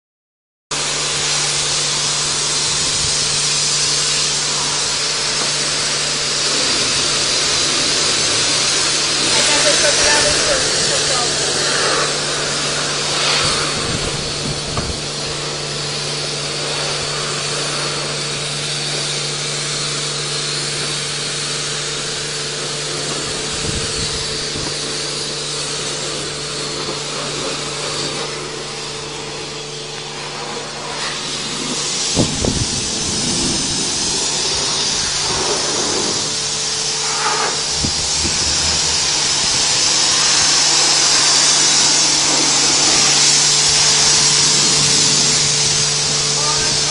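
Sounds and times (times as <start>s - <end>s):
constant low hum: 0.8s - 46.9s
pressure washer spray hissing: 0.8s - 46.9s.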